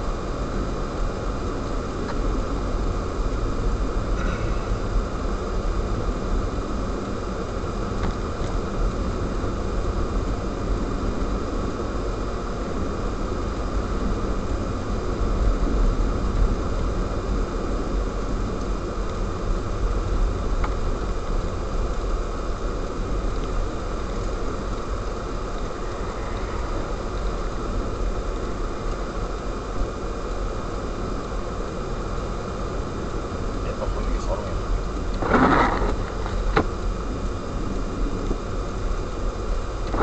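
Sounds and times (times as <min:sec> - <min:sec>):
car engine and tyre noise: 0:00.0 - 0:40.0.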